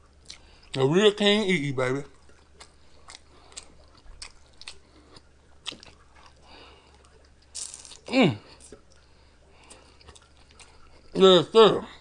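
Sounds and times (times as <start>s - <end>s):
person chewing: 0.1s - 0.8s, 2.1s - 11.2s.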